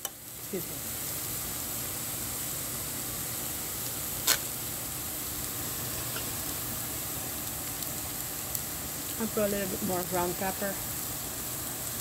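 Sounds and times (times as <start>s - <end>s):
noodles sizzling in a pan: 0.0s - 12.0s.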